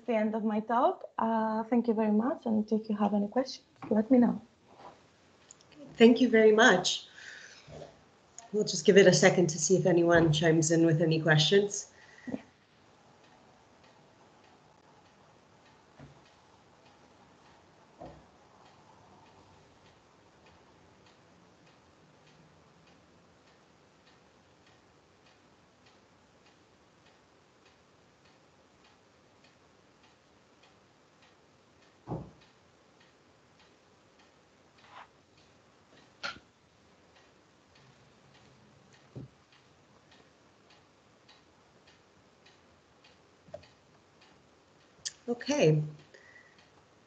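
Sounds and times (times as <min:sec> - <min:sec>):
faint regular ticking: 0:01.6 - 0:47.0.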